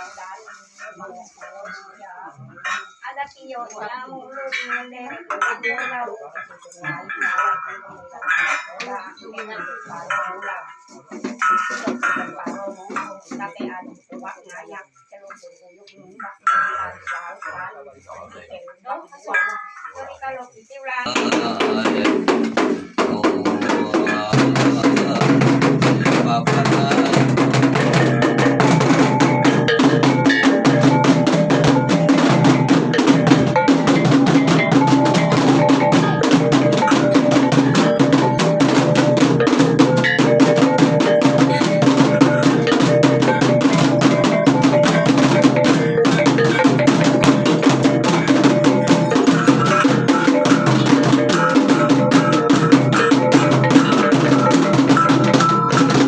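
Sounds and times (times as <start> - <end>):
drums beaten in fast rhythm: 0.0 - 56.0
ringing metallic tones: 0.0 - 56.0.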